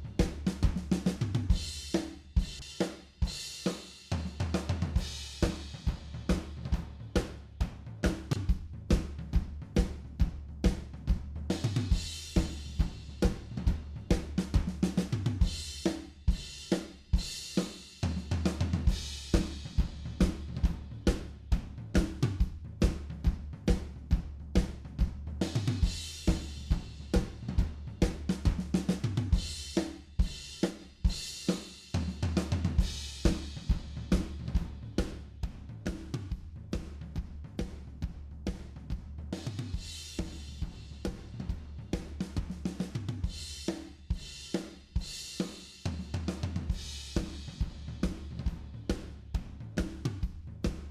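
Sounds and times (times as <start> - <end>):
drum kit playing a groove: 0.0 - 50.9.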